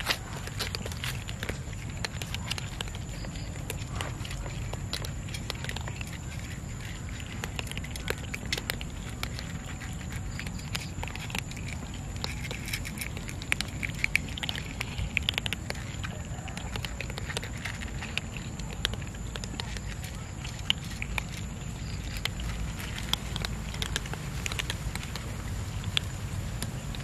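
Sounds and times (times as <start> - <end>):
cats crunching dry kibble: 0.0 - 27.0.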